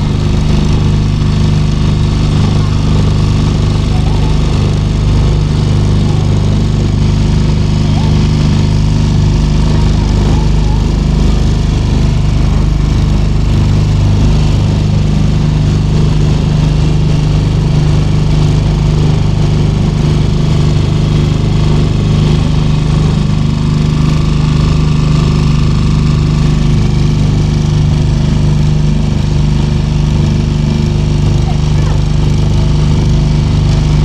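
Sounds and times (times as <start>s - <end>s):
motor boat engine humming: 0.0s - 34.0s.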